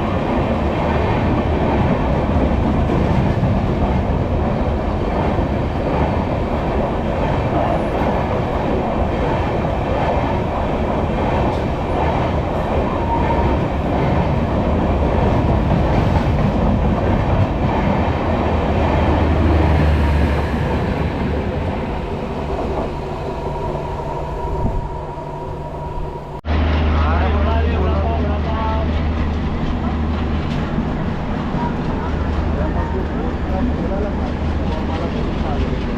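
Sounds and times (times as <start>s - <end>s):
train wheels rattling on rails: 0.0s - 26.4s, 27.5s - 35.9s.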